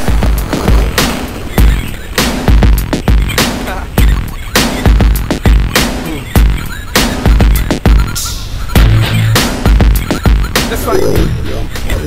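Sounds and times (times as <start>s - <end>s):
deep bass: 0.0s - 8.2s, 8.8s - 12.0s
loud music with heavy drums: 0.0s - 12.0s.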